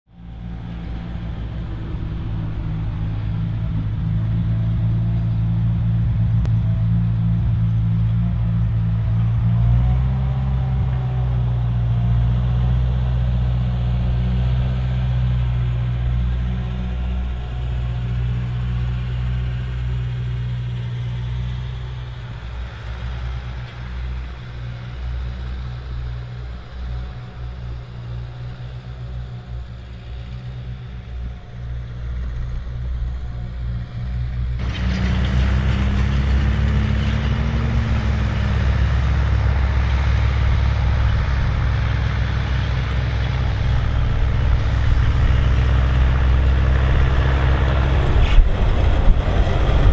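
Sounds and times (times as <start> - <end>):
tractor engine running under load: 0.1 - 49.9.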